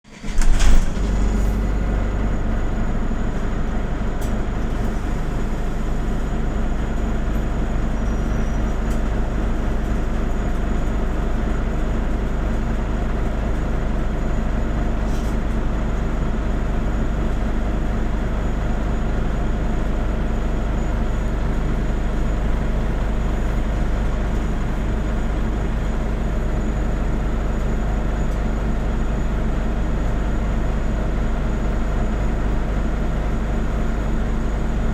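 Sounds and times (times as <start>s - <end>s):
bus engine and road rumble: 0.1s - 34.9s.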